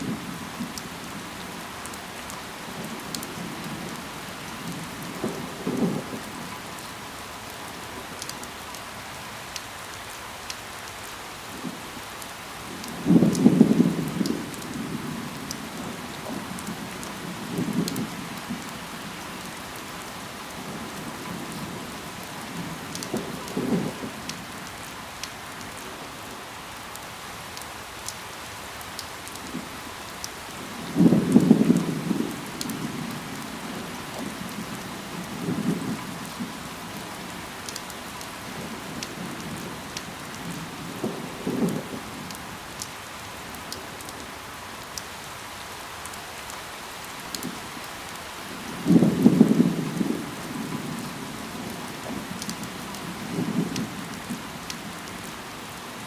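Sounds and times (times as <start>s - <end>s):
rain drops ticking: 0.0s - 56.0s
steady rain falling: 0.0s - 56.0s.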